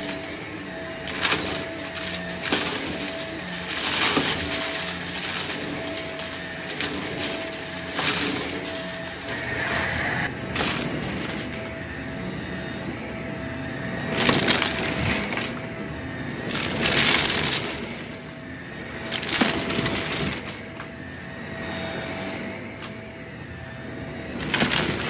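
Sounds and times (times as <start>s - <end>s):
debris crunching and rattling: 0.0s - 12.4s, 14.0s - 25.0s
vacuum cleaner motor hum: 0.0s - 25.0s.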